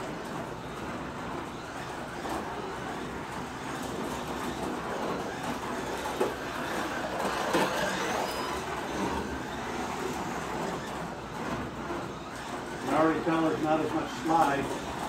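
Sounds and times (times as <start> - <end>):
slot car motor whirring: 0.0 - 15.0
tires on plastic track: 0.0 - 15.0.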